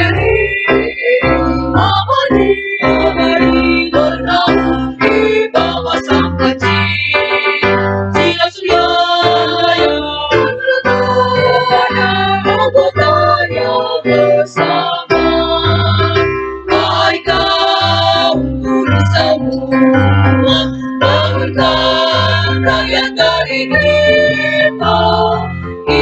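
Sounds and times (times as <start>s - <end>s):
choir singing in parts: 0.0s - 26.0s
electronic organ with bass line: 0.0s - 26.0s.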